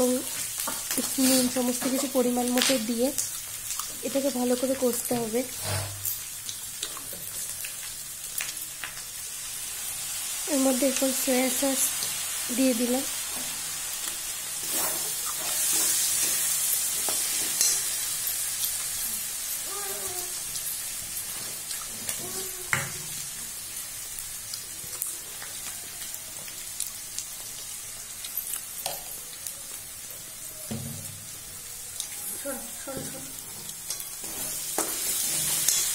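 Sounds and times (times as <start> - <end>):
vegetables sizzling in hot oil: 0.0 - 35.9.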